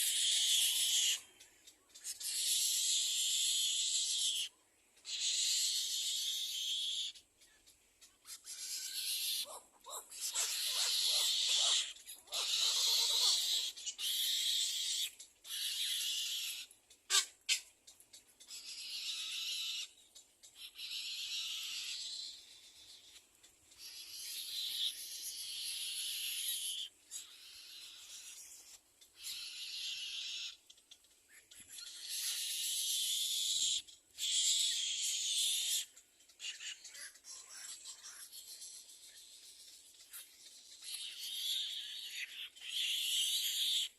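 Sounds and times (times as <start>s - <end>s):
nestlings raspy begging calls: 0.0s - 43.9s.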